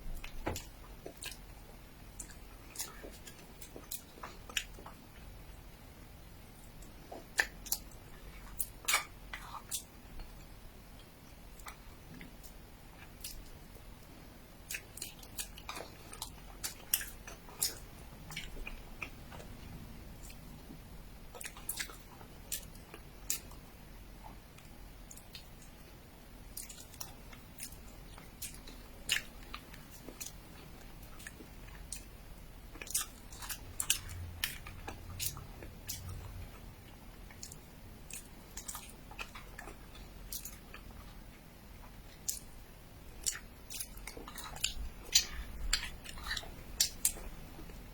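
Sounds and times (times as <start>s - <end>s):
person chewing sticky food: 0.0s - 5.6s, 6.4s - 47.9s.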